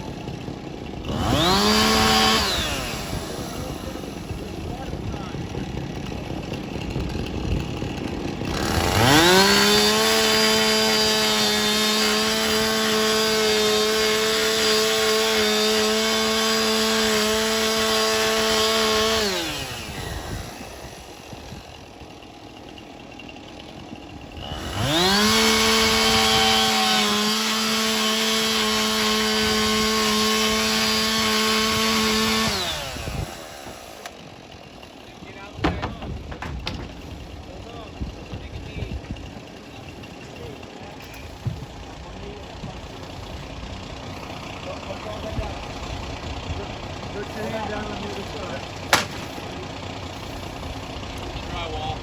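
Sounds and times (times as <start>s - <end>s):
chainsaw revving and cutting: 0.0s - 52.0s.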